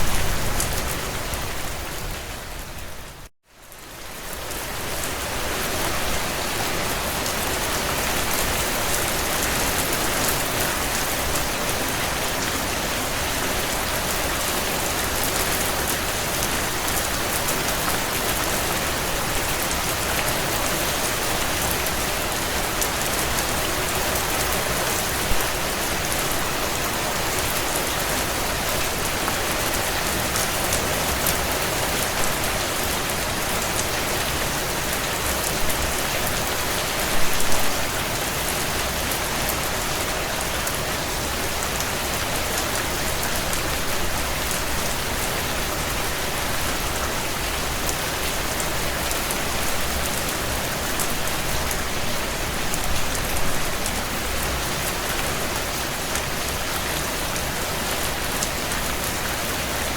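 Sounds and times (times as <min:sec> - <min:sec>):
heavy rain on window panes: 0:00.1 - 0:59.9.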